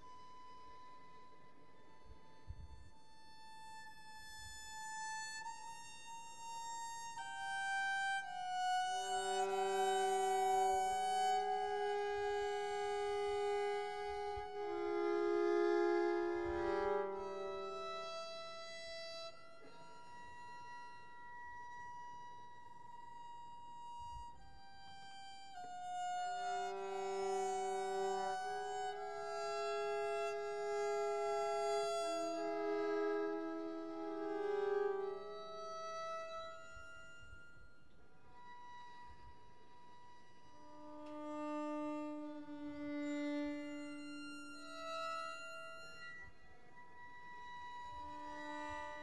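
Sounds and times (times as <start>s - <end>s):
muted violin duet: 0.0s - 49.0s.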